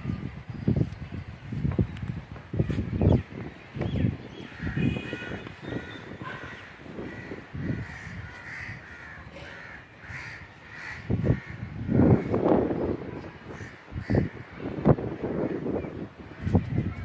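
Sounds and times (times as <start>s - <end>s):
birds calling: 2.5s - 17.0s.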